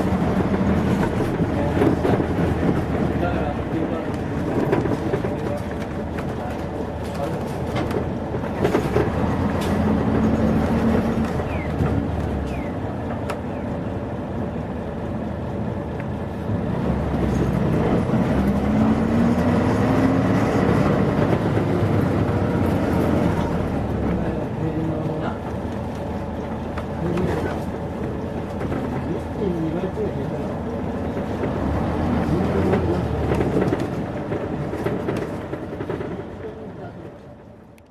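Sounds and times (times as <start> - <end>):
bus diesel engine: 0.0 - 37.9.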